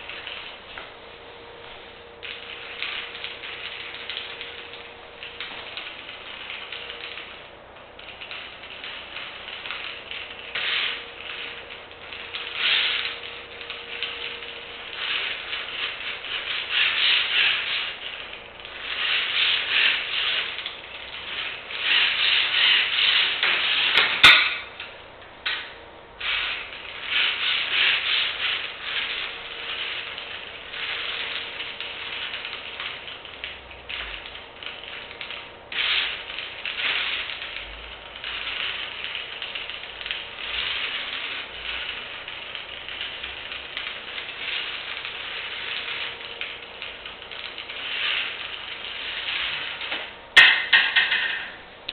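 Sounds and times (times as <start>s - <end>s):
toy train motor and wheels running: 0.0s - 0.9s, 2.2s - 51.5s.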